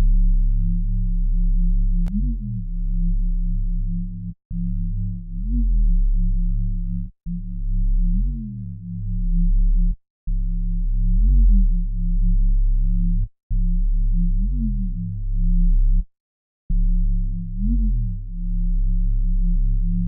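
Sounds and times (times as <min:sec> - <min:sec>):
synthesized sub-bass line: 0:00.0 - 0:16.0, 0:16.7 - 0:20.0.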